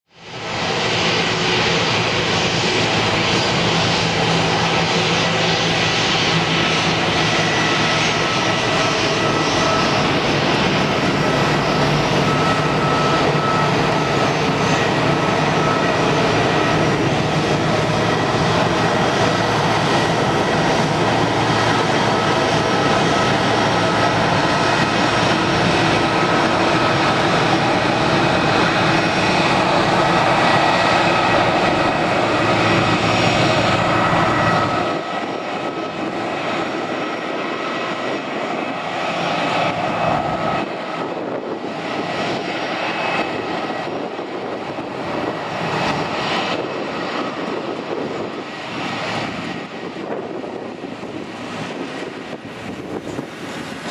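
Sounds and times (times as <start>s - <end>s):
jet engines whining: 0.2s - 53.9s.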